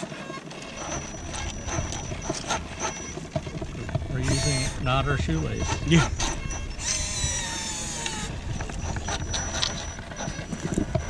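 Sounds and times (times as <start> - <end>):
electric winch motor whining: 0.0 - 11.0
light clicks and scrapes: 0.0 - 11.0.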